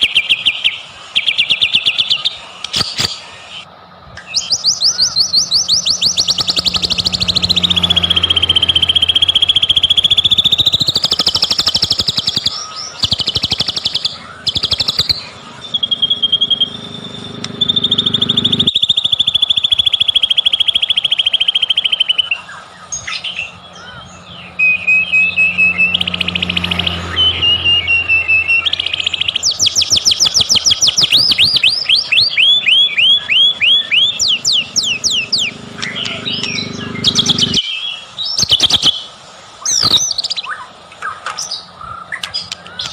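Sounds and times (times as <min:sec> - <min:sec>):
songbird singing whistled trills: 0:00.0 - 0:42.9.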